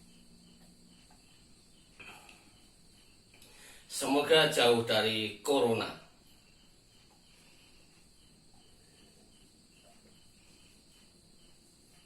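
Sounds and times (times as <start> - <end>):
faint high-pitched insect pulses: 0.0 - 12.0.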